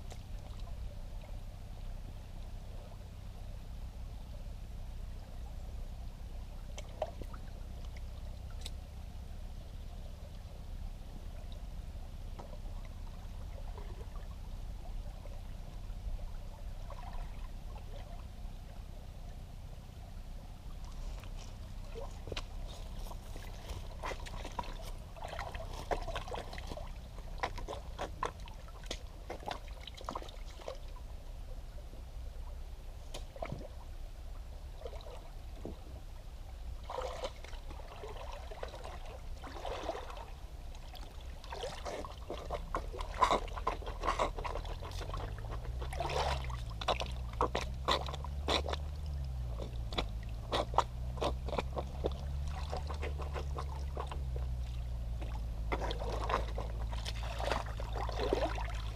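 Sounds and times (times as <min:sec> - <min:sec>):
footsteps sloshing through water: 0:00.0 - 0:03.4, 0:05.2 - 0:58.9
stream trickling: 0:00.0 - 0:58.9
wavering low hum: 0:00.0 - 0:58.9.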